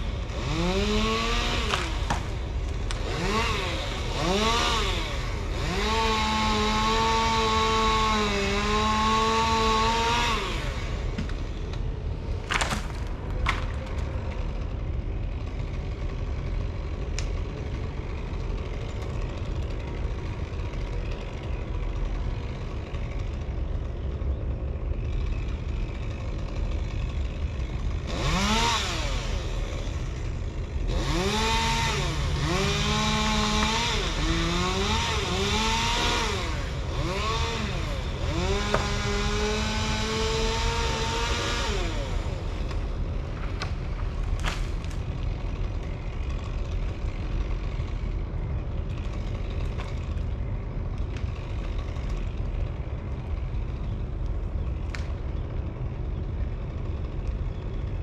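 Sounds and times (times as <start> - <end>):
chainsaw revving: 0.0 - 23.9, 25.0 - 53.8.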